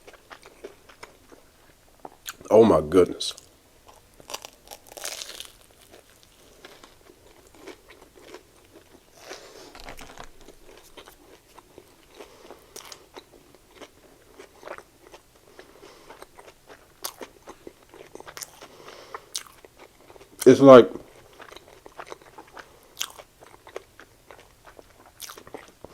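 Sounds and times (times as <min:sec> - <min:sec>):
person chewing crunchy food: 0:00.0 - 0:02.4, 0:03.4 - 0:20.4, 0:21.0 - 0:25.9.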